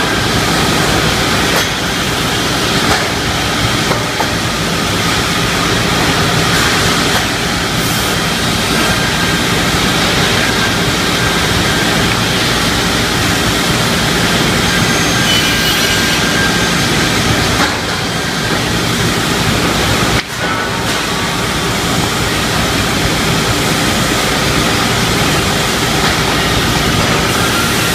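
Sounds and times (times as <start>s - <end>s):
saw machine running: 0.0s - 27.9s.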